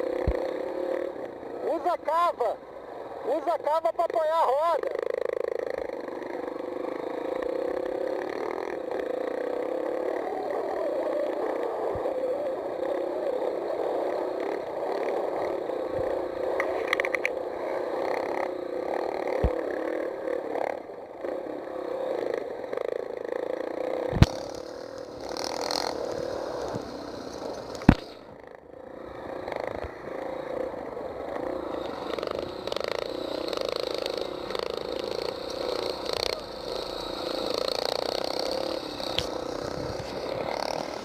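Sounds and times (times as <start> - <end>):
motocross bike engine: 0.0 - 41.0.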